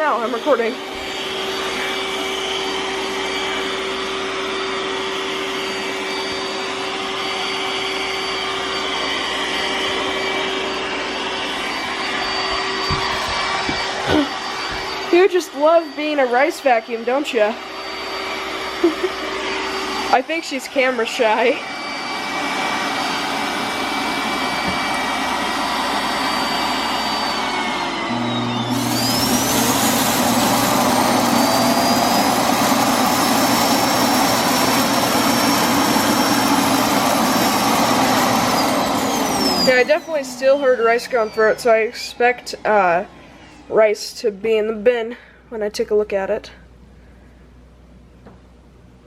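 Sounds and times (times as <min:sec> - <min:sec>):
vacuum suction rush with hum: 0:00.0 - 0:43.9.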